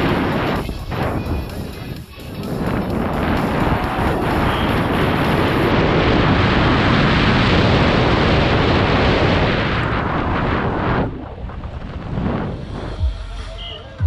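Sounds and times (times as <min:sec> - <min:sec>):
wind rushing over microphone: 0:00.0 - 0:13.7.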